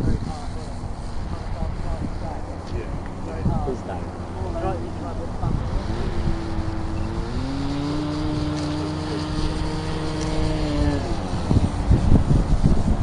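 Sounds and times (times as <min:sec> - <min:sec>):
model plane motor whining: 0:00.0 - 0:13.0
wind buffeting microphone: 0:00.0 - 0:13.0.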